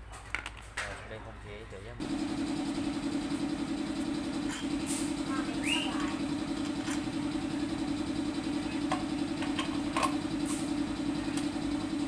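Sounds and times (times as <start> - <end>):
low machine hum: 1.6 - 12.0.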